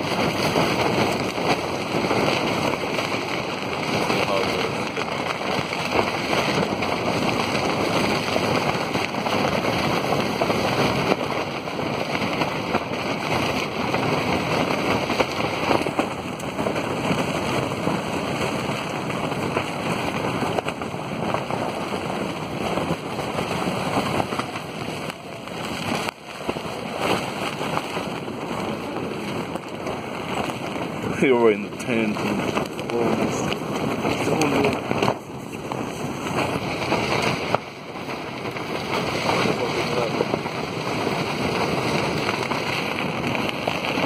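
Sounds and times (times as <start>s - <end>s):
wind and rain on a tent: 0.0s - 44.0s.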